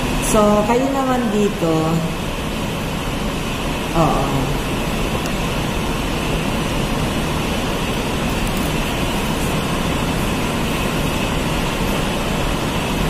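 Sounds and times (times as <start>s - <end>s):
room background drone: 0.0s - 13.0s.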